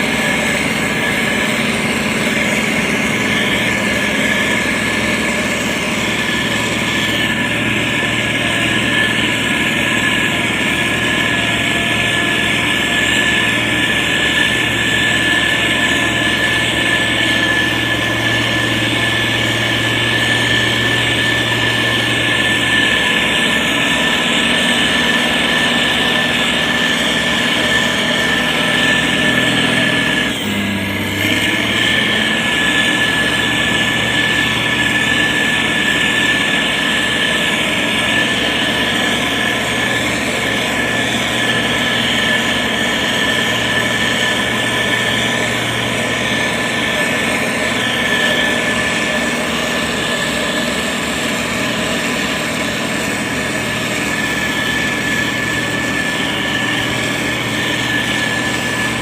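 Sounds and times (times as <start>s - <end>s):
heavy diesel engine running: 0.0s - 59.0s
high whine: 0.0s - 59.0s.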